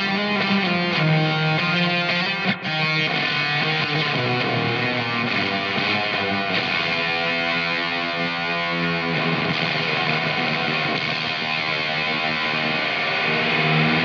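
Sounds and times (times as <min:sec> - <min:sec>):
fuzz electric guitar: 0:00.0 - 0:14.0.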